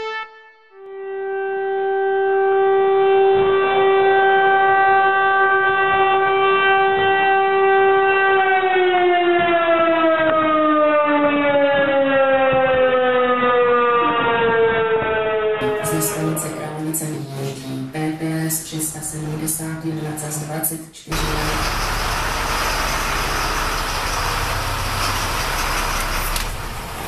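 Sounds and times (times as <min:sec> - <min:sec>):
motor-driven siren wailing: 0:00.8 - 0:18.0, 0:19.3 - 0:27.0.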